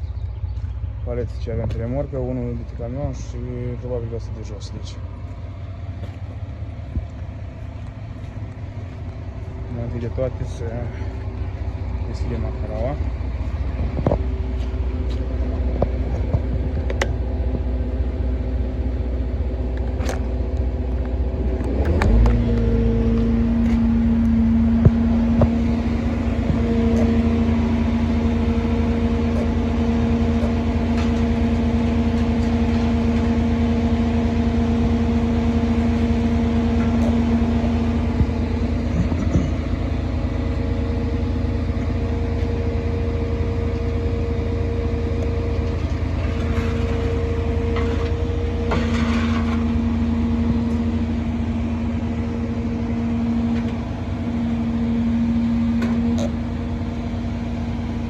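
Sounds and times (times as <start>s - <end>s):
truck engine running: 0.0s - 58.0s
hydraulic whine: 10.3s - 58.0s.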